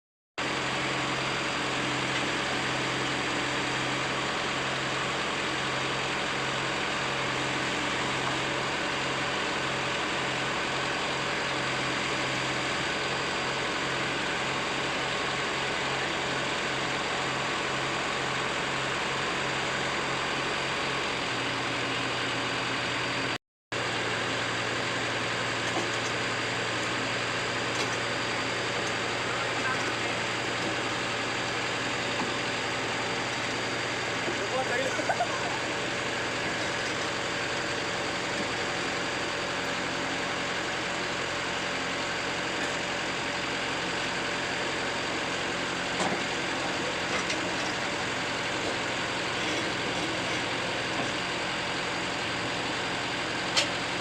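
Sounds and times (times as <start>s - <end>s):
excavator diesel engine running: 0.4s - 54.0s.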